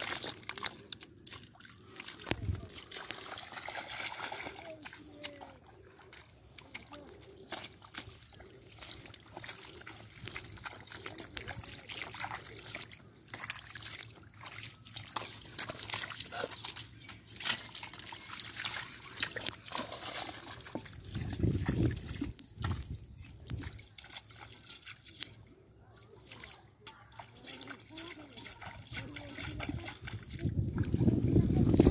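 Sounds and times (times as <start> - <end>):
hands splashing in muddy water: 0.0 - 25.4, 26.0 - 31.9.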